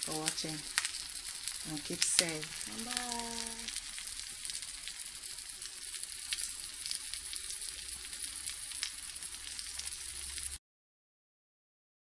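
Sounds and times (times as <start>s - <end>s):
omelette sizzling in a pan: 0.0s - 10.6s.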